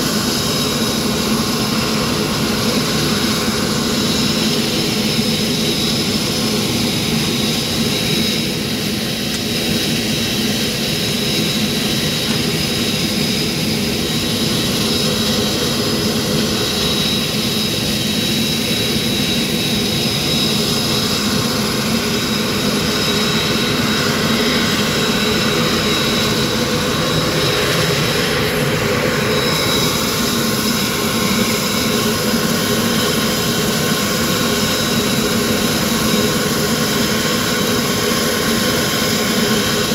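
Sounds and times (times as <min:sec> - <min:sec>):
turbine engine whine: 0:00.0 - 0:39.9.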